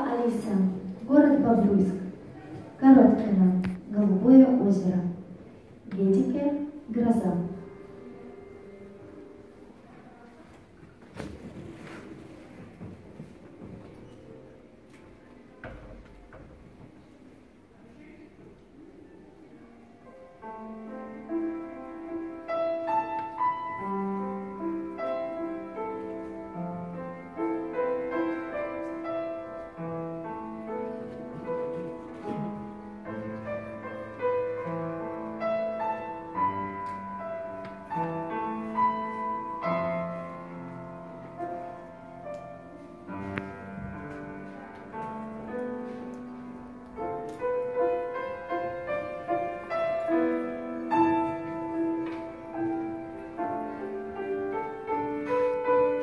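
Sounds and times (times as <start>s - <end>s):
grand piano classical piece: 0.0s - 56.0s.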